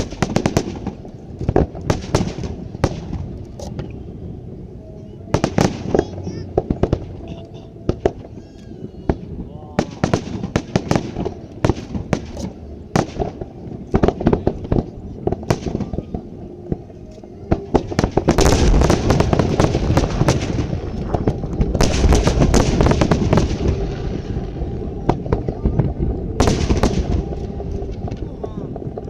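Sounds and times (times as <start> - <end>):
firework bangs and crackling: 0.0 - 4.6, 5.3 - 29.0.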